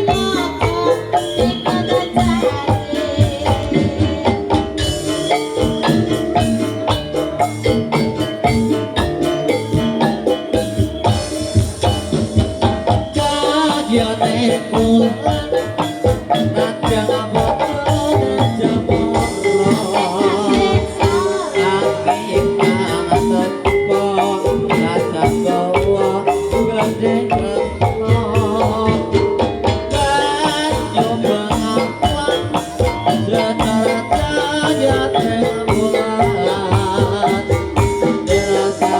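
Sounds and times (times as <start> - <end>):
drums and rattling percussion: 0.0 - 38.9
wavering melody line: 0.0 - 38.9.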